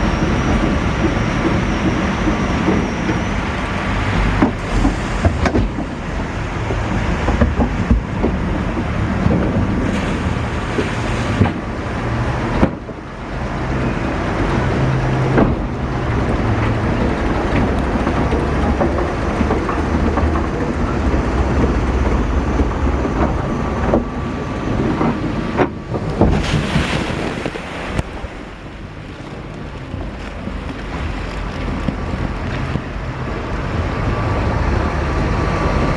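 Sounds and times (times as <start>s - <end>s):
boat rumbling along: 0.0s - 35.9s
rushing water: 0.0s - 35.9s.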